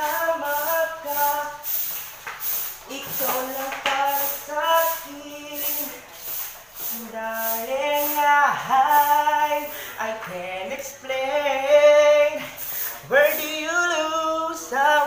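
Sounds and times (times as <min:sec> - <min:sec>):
person singing slow melody: 0:00.0 - 0:01.8, 0:02.8 - 0:06.2, 0:06.8 - 0:15.0.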